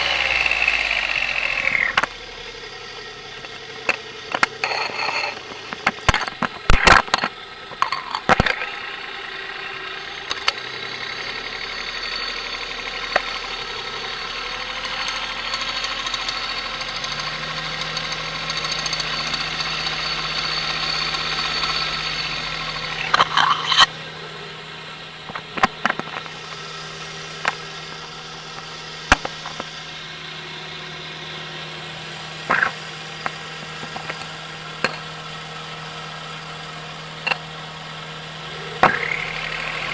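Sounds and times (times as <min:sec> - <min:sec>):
car engine idling: 0:00.0 - 0:39.9
engine knocking: 0:00.0 - 0:39.9.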